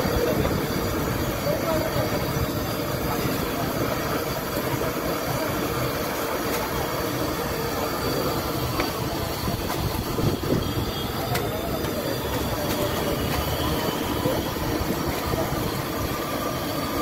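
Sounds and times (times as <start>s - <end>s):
food deep-frying in oil: 0.1s - 17.0s.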